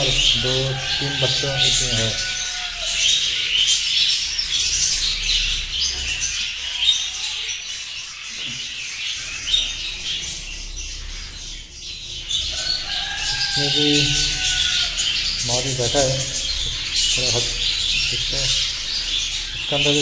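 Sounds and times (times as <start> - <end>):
budgerigars chattering and squawking: 0.0 - 20.0.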